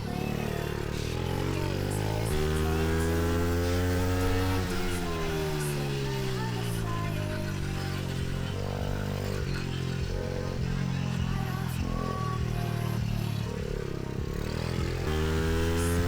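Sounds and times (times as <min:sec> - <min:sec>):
small motorbike engine revving: 0:00.0 - 0:16.0.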